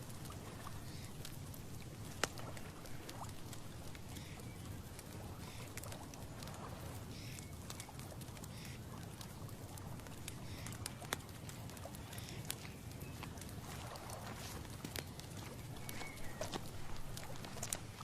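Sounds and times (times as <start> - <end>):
leaves rustling: 0.0 - 18.0
low wind rumble: 0.0 - 18.0.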